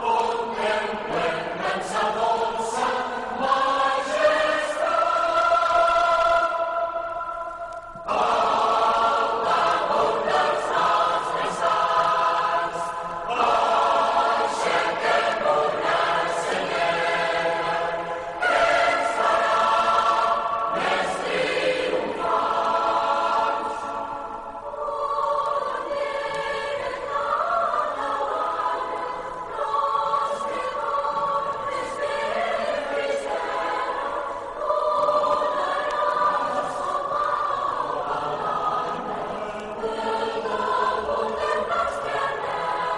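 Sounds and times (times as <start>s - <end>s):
choir singing: 0.0s - 42.9s.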